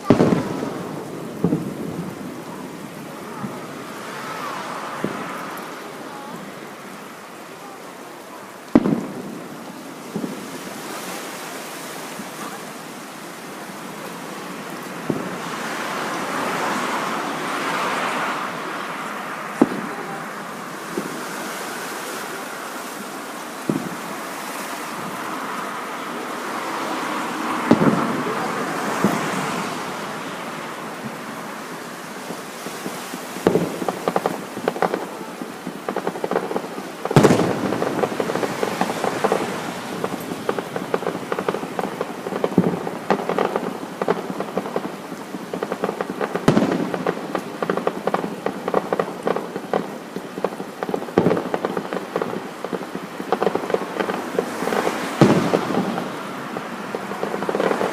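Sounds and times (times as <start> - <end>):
fireworks bursting booms: 0.0 - 57.9
fireworks crackling: 0.0 - 57.9.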